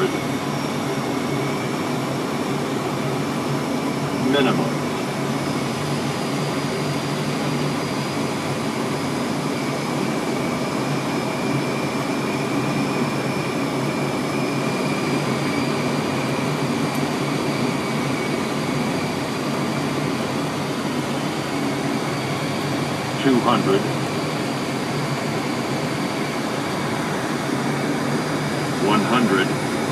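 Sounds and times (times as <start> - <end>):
engine and airflow noise: 0.0 - 29.9
faint high whine: 0.0 - 29.9.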